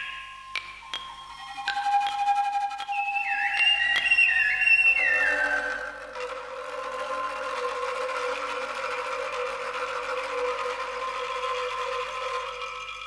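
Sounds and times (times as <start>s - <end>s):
bamboo chimes clattering: 0.0s - 13.0s.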